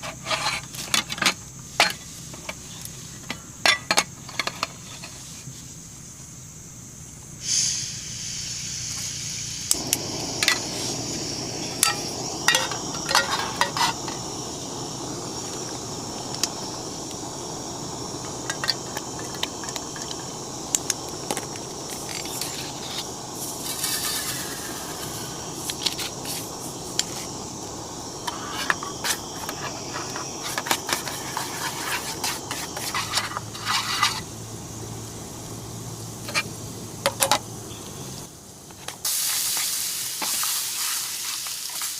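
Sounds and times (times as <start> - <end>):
food sizzling in a pan: 7.4 - 38.3, 39.0 - 41.9.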